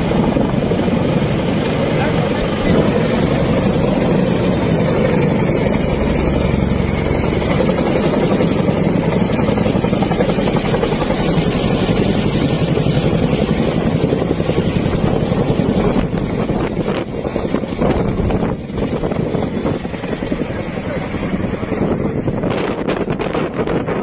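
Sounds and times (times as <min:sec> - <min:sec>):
helicopter rotors chopping: 0:00.0 - 0:24.0.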